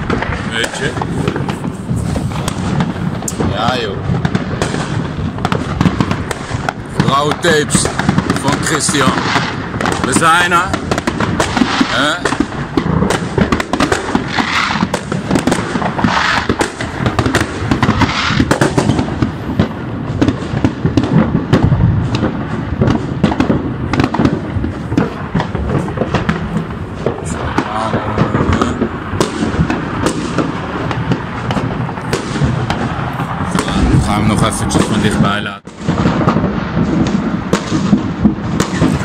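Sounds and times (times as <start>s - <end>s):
fireworks and firecrackers crackling: 0.0s - 39.0s.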